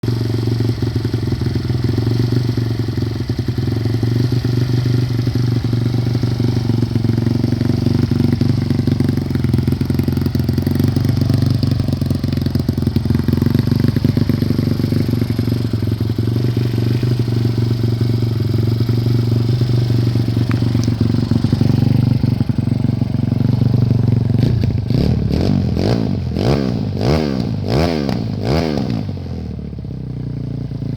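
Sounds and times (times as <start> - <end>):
motorbike engine idling and revving: 0.0 - 30.9.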